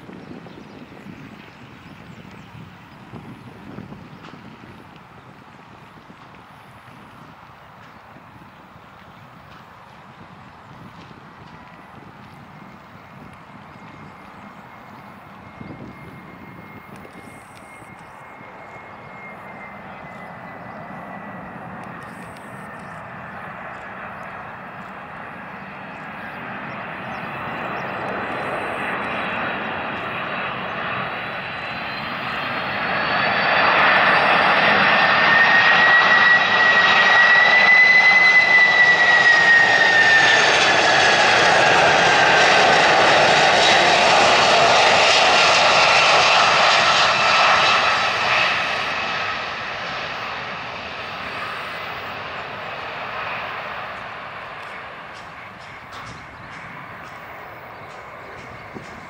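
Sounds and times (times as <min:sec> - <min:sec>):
jet airliner flying past: 0:00.0 - 0:59.0.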